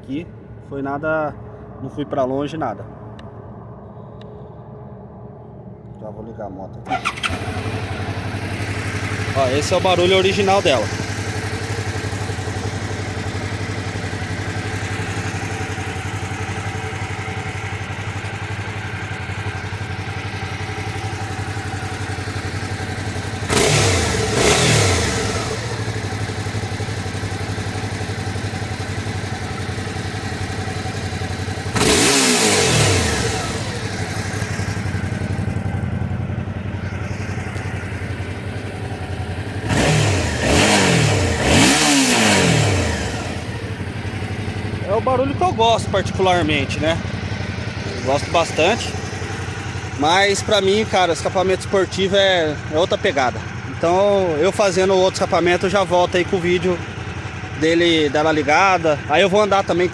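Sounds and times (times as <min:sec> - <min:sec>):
motorcycle engine idling: 0:06.8 - 0:59.9
motorcycle engine revving: 0:06.8 - 0:59.9.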